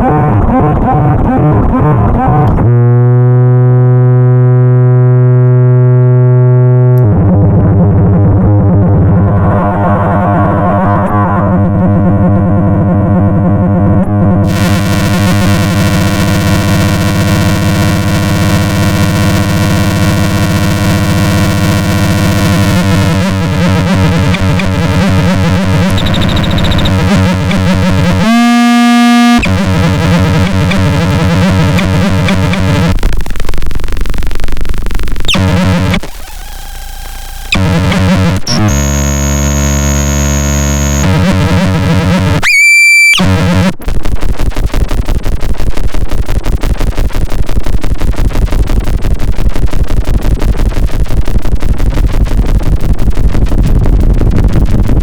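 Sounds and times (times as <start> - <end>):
distorted feedback drone: 0.0 - 55.0.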